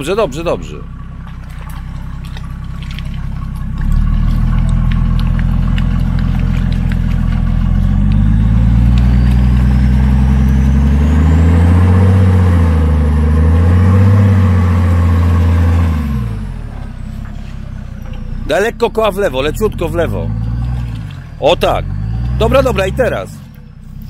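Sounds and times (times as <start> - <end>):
diesel engine revving under load: 0.0 - 24.0
truck pushing through mud and water: 0.0 - 24.0.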